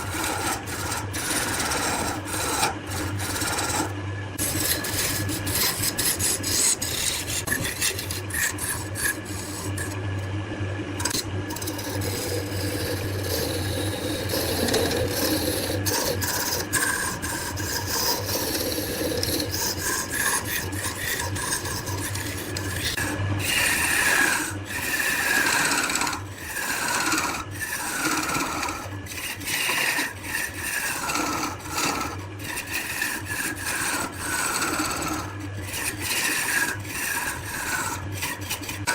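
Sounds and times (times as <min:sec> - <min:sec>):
tool scraping wood on lathe: 0:00.0 - 0:38.9.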